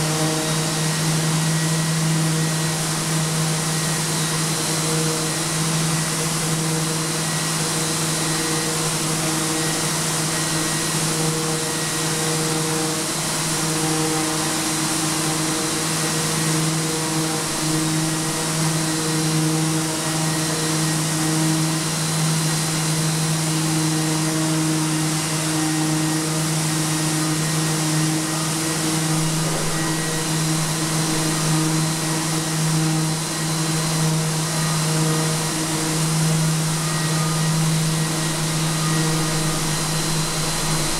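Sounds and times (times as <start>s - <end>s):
electric sander grinding: 0.0s - 40.9s.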